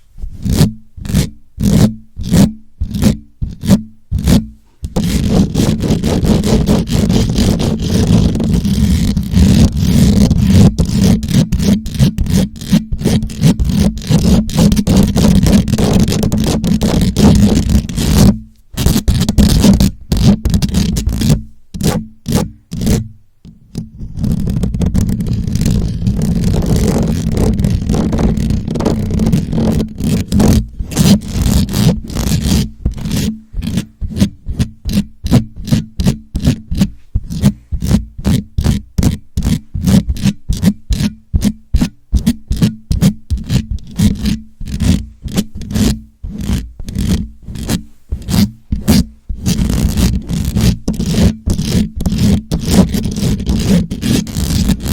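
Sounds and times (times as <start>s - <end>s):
scratching on microphone: 0.0s - 54.9s.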